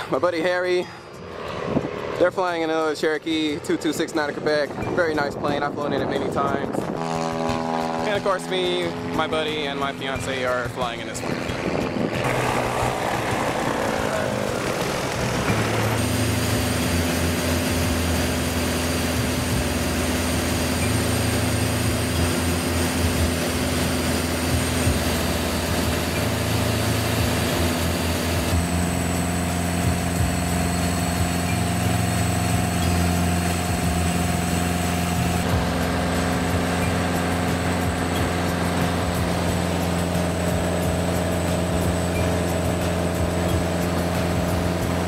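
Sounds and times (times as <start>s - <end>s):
propeller plane engine droning: 0.0s - 45.0s.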